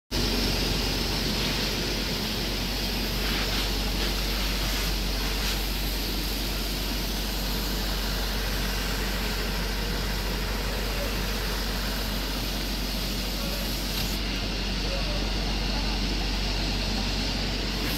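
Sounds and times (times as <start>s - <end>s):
fire engine pump rumbling: 0.1s - 17.9s.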